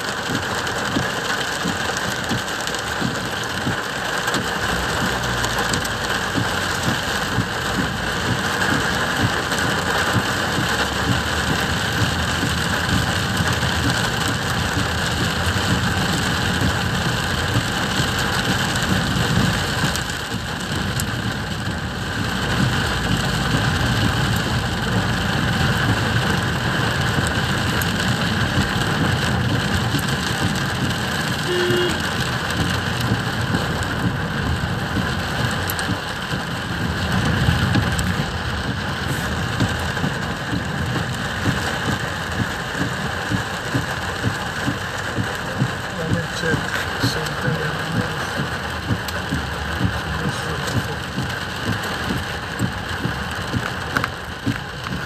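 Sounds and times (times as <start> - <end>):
car running noise: 0.0 - 55.0
heavy rain on car roof: 0.0 - 55.0.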